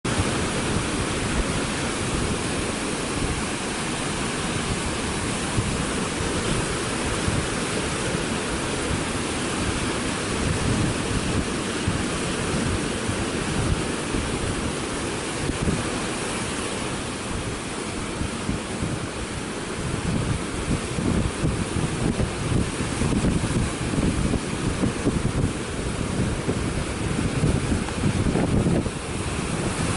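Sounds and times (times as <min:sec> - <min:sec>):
waves breaking on rocks: 0:00.1 - 0:29.9.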